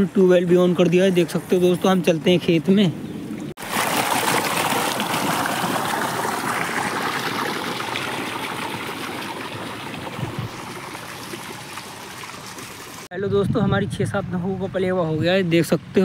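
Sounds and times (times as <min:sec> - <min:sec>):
water rushing along a channel: 0:00.0 - 0:13.1.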